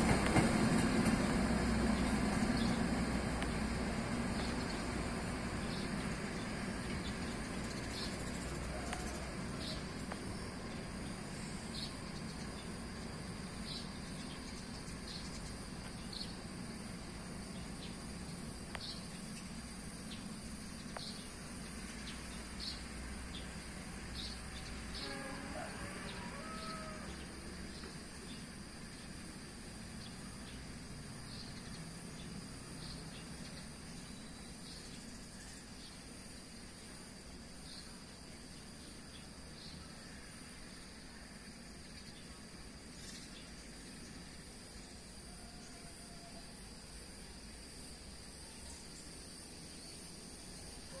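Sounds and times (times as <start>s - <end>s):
insects chirping: 0.0s - 51.0s.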